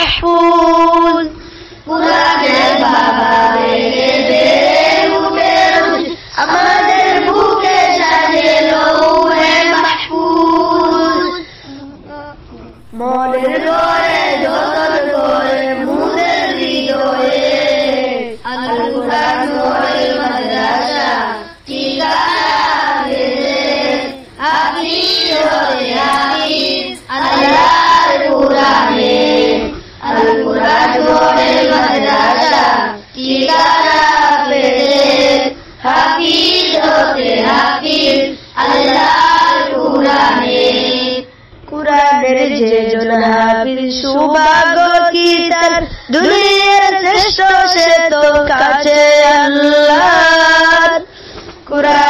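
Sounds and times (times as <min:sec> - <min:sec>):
young voices singing together: 0:00.0 - 0:51.1, 0:51.7 - 0:52.0.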